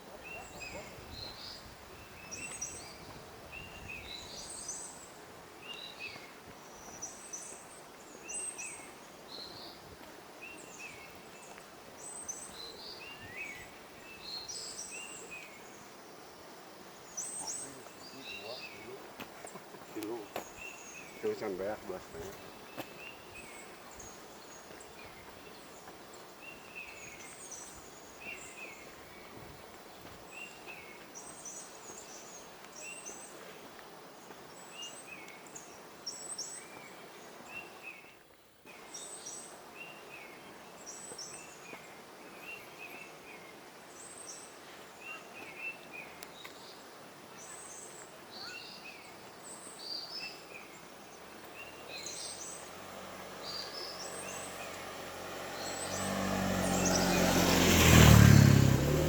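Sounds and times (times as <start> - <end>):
birds chirping: 0.0 - 38.2, 47.4 - 59.0
forest background hiss: 0.0 - 59.0.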